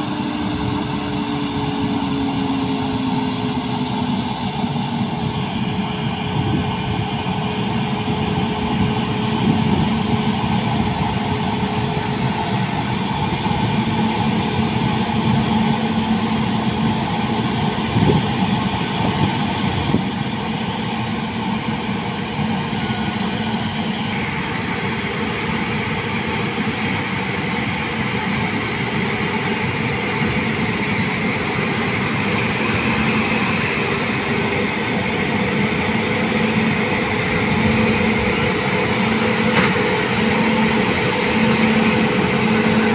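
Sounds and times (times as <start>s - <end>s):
electric locomotive hum: 0.0s - 42.9s.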